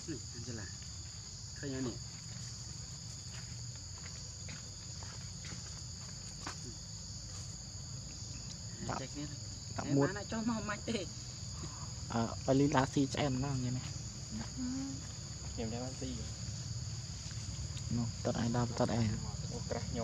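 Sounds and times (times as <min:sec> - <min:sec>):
shrill insect chorus: 0:00.0 - 0:20.0.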